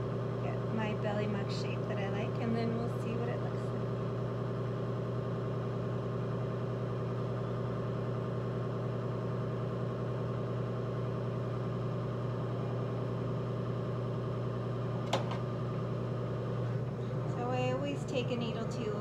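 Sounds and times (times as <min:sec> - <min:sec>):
pottery wheel motor humming: 0:00.0 - 0:19.0.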